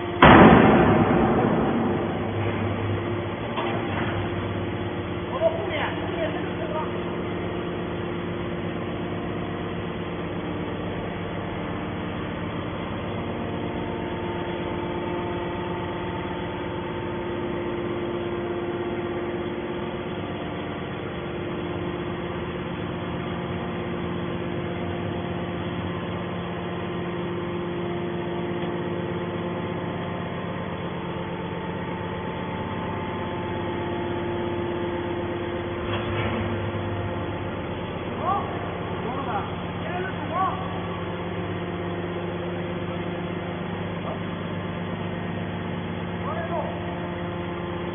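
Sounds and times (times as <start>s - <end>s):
hydraulic power unit humming: 0.0s - 47.9s.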